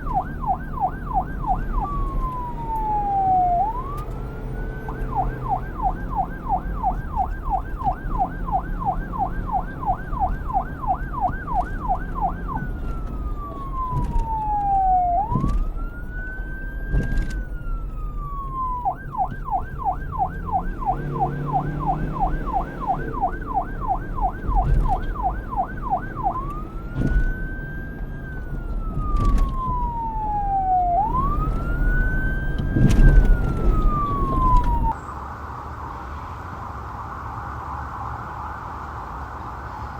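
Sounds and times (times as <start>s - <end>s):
electronic police siren: 0.0s - 35.2s.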